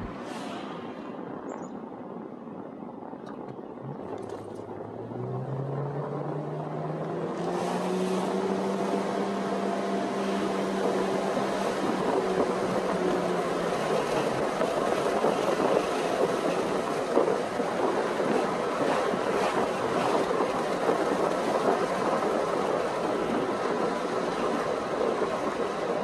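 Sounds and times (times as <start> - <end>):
tyre and road noise: 0.0 - 26.0
car engine accelerating: 3.4 - 26.0.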